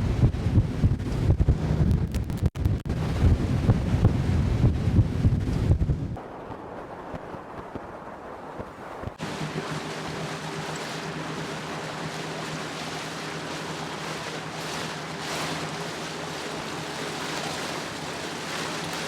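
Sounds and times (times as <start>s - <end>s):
outboard motor humming: 0.0s - 19.0s
rush of wind and water: 0.0s - 19.0s.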